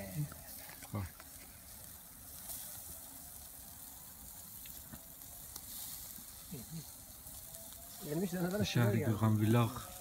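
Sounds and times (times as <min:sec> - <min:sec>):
kebabs sizzling on charcoal grill: 0:00.0 - 0:10.0.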